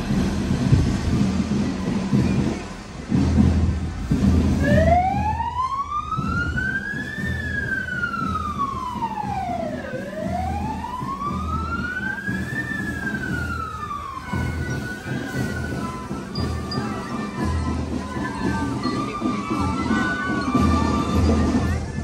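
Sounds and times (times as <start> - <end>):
emergency vehicle siren wailing: 4.4 - 22.0.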